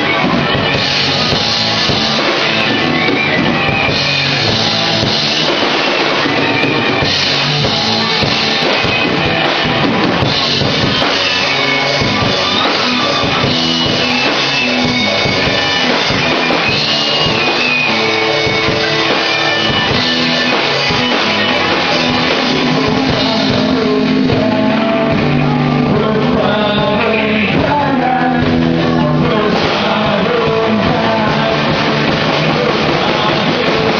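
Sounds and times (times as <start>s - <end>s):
bass guitar: 0.0s - 33.9s
drum kit: 0.0s - 33.9s
electric guitar: 0.0s - 33.9s.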